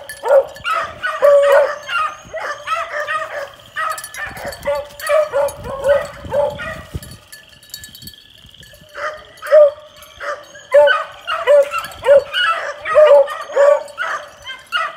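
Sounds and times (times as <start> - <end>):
puppies yipping: 0.0 - 7.0, 8.9 - 14.9.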